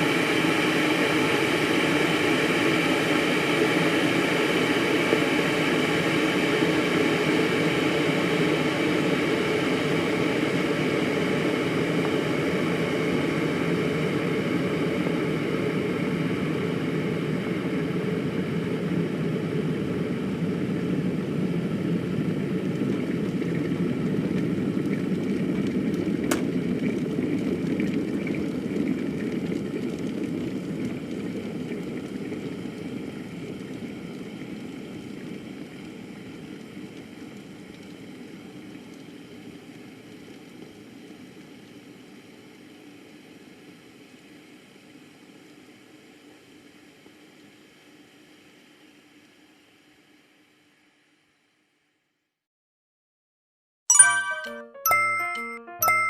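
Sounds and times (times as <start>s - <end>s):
electric kettle boiling water: 0.0s - 51.6s.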